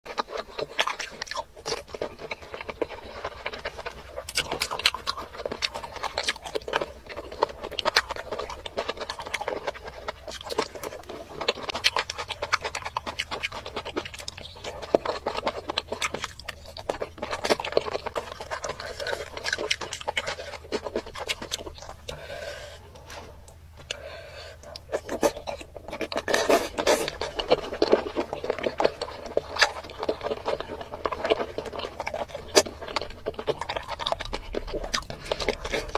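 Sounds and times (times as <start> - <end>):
wet sticky chewing: 0.1 - 35.9.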